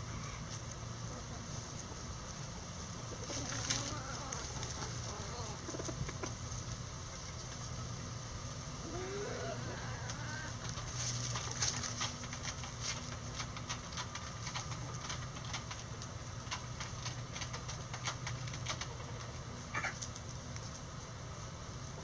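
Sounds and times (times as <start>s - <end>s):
chickens scratching in dry leaves: 0.0s - 22.0s
low steady hum: 0.0s - 22.0s.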